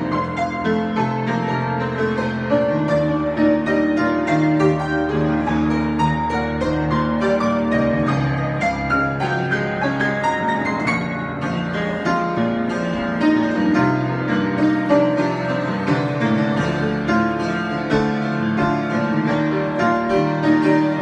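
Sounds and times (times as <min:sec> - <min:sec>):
solo piano playing: 0:00.0 - 0:21.0.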